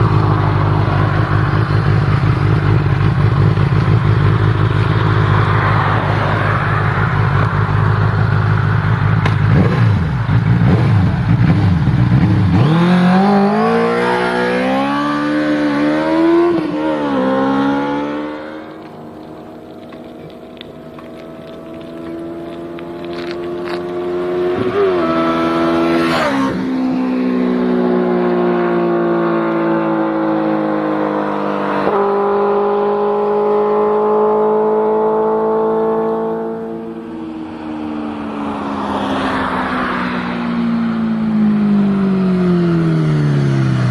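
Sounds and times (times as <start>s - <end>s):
motorcycle engine revving: 0.0s - 37.3s.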